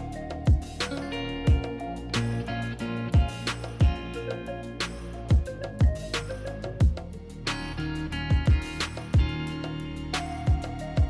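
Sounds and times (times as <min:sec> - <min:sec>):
melodic music over a beat: 0:00.0 - 0:11.0.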